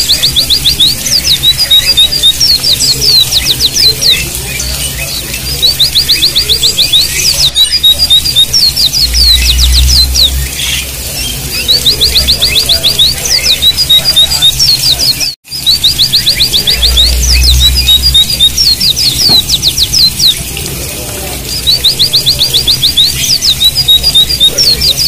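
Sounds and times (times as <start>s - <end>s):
bird trilling chirps: 0.0s - 25.0s.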